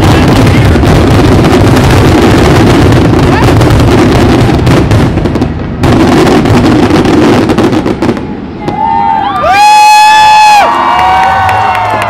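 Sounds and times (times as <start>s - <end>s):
aerial fireworks bursts: 0.0s - 12.0s.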